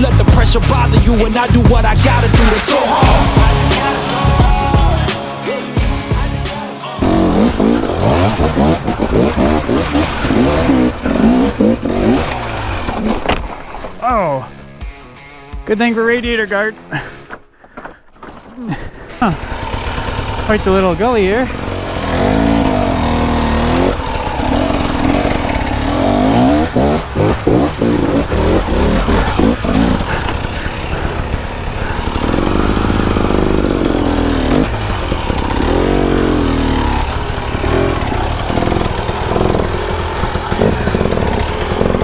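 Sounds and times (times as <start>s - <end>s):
dirt bike engine revving: 0.0s - 15.3s, 18.2s - 42.0s.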